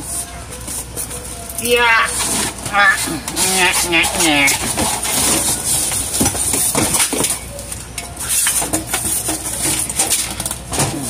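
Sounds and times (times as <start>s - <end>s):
knocks and scrapes: 2.1s - 11.0s.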